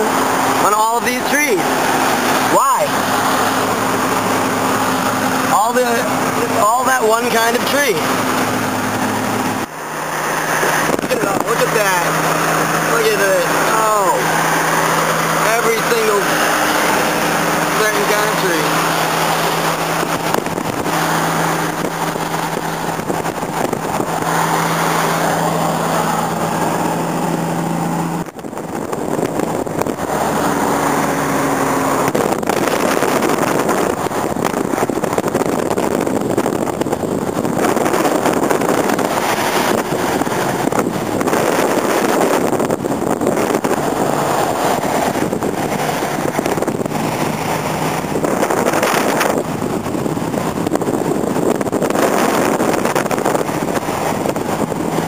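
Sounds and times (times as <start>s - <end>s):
air rushing through window: 0.0s - 55.0s
car road and wind noise: 0.0s - 55.0s.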